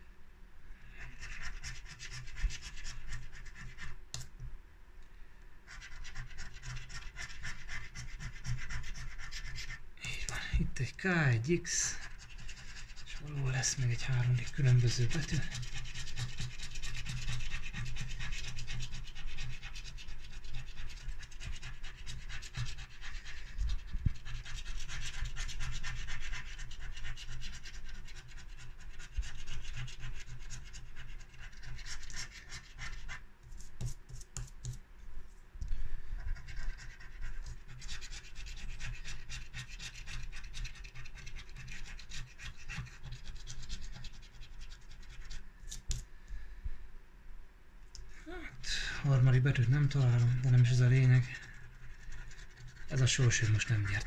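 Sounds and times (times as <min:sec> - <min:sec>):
scratch card being scratched: 0:01.0 - 0:04.4, 0:05.7 - 0:34.8, 0:36.2 - 0:46.1, 0:48.6 - 0:54.0.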